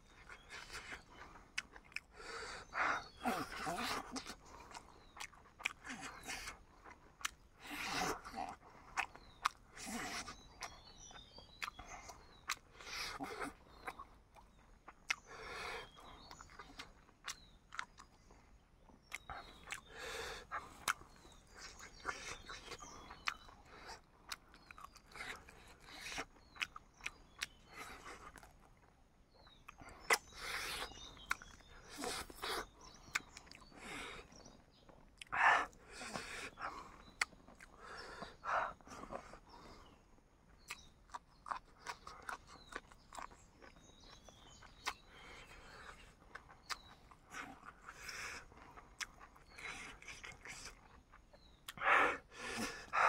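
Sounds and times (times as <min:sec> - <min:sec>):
person chewing food: 0:00.1 - 0:39.9, 0:40.5 - 0:53.0.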